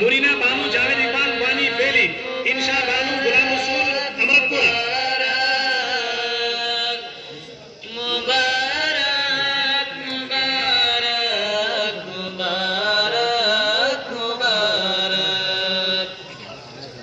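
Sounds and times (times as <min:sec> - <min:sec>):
person chanting melodic recitation: 0:00.0 - 0:16.6.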